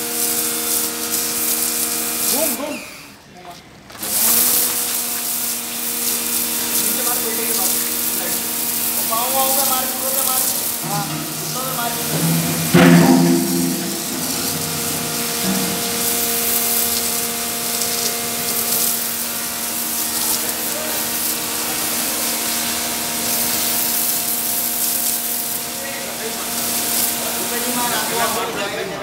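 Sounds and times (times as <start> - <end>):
pressure washer water hiss: 0.0 - 3.0, 4.0 - 28.7.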